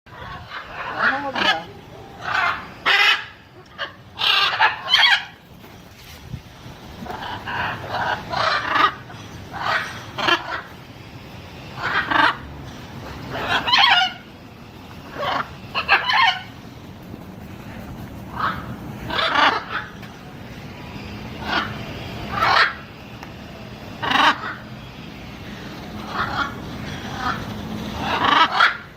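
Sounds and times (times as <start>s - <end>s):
macaw squawking: 0.1s - 5.4s, 7.0s - 10.9s, 11.6s - 12.5s, 13.2s - 16.8s, 17.6s - 20.3s, 21.2s - 23.0s, 23.9s - 28.9s.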